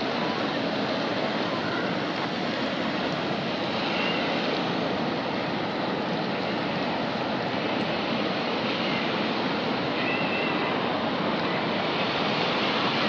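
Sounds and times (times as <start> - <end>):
water rushing over spillway: 0.0 - 13.0.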